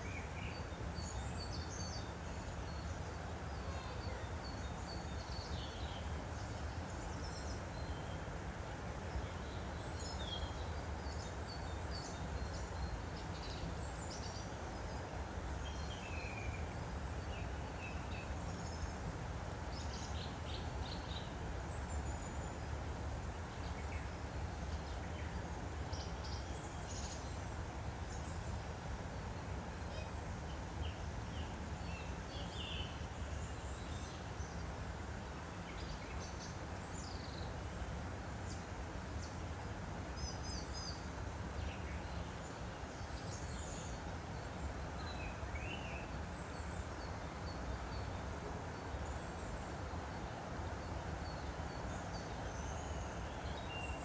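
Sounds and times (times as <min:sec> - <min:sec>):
songbirds chirping: 0:00.0 - 0:54.0
stream flowing: 0:00.0 - 0:54.0.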